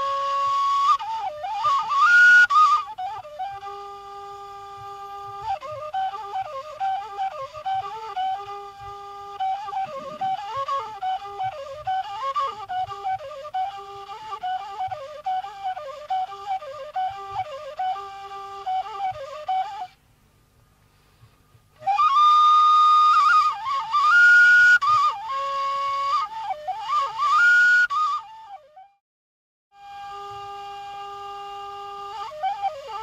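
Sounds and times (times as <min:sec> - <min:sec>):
flute-like melody: 0:00.0 - 0:20.0, 0:21.3 - 0:29.0, 0:29.7 - 0:33.0.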